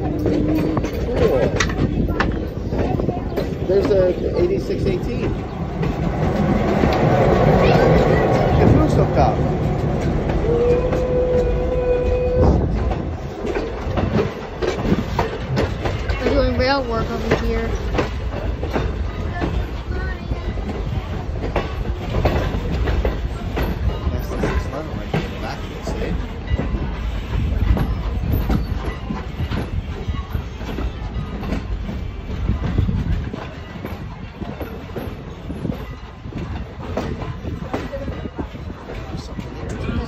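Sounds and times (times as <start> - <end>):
clacks over rail joints: 0.0 - 40.0
train wheels rumbling: 0.0 - 40.0.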